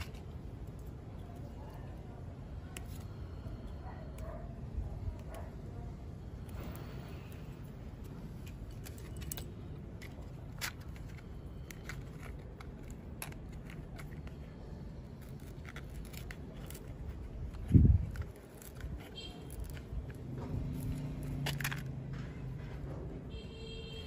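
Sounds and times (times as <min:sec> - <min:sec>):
small clicks and scrapes: 0:00.0 - 0:05.8, 0:08.0 - 0:23.1
steady low rumble: 0:02.0 - 0:22.8.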